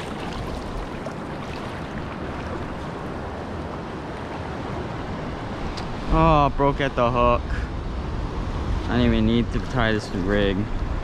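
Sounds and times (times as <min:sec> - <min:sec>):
ocean surf: 0:00.0 - 0:11.0.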